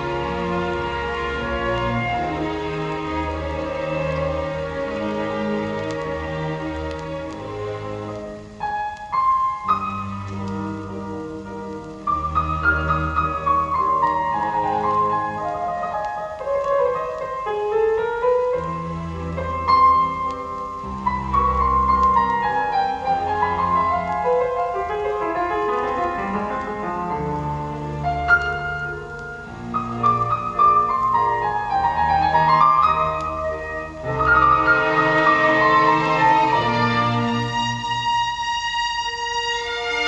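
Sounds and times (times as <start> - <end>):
classical piano music: 0.0 - 40.0.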